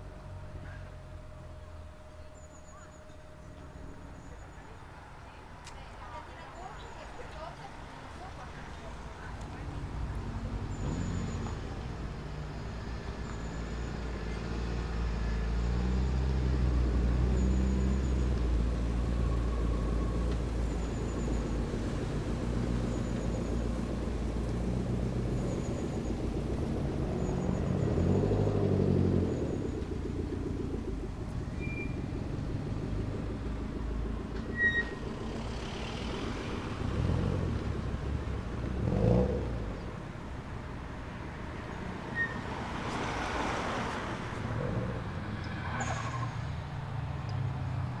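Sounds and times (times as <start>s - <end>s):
car engines idling: 0.0s - 48.0s.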